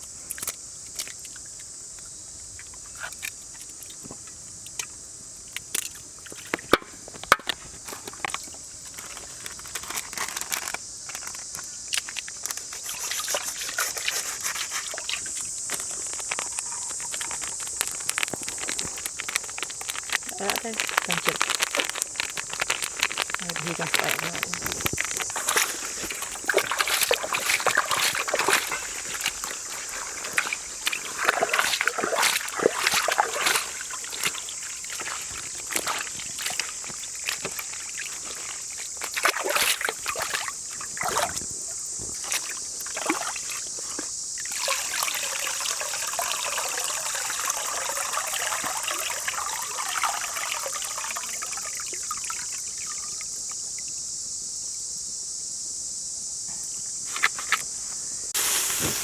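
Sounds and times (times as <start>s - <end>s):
water trickling: 0.0s - 54.0s
steady high-pitched hiss: 0.0s - 59.0s
water sloshing and splashing: 2.6s - 53.9s.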